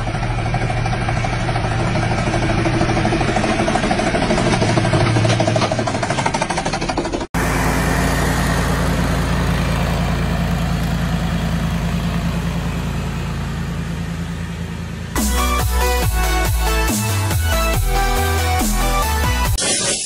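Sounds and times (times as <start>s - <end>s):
riding mower engine running: 0.0s - 19.6s.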